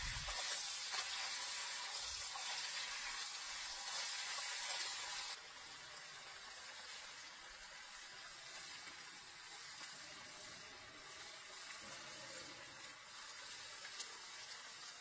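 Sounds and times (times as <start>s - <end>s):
pot simmering hiss: 0.0s - 15.0s.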